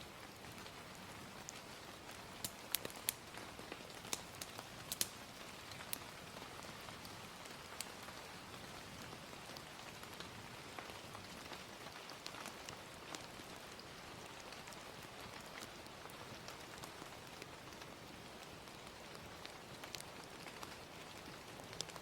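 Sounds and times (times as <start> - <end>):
gentle rain: 0.0 - 22.0
fire crackling pops: 0.2 - 22.0.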